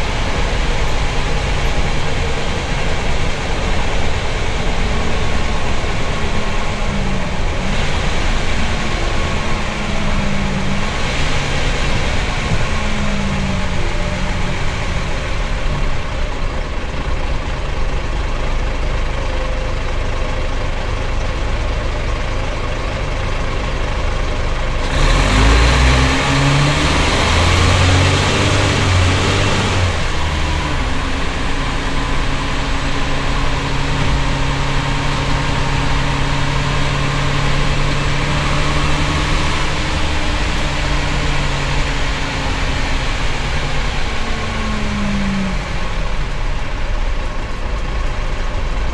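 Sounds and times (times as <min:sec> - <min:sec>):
diesel bus engine: 0:00.0 - 0:48.9
faint high turbo whine: 0:00.0 - 0:48.9.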